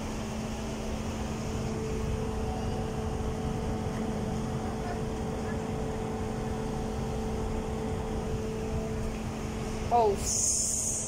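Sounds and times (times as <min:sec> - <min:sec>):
machine hum with low rumble: 0:00.0 - 0:11.0.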